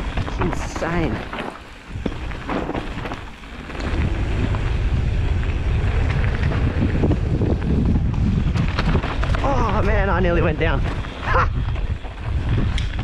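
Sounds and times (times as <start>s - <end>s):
bike clicks and knocks: 0.0s - 13.0s
bike tyres rolling over dirt: 0.0s - 13.0s
wind buffeting microphone: 0.0s - 13.0s.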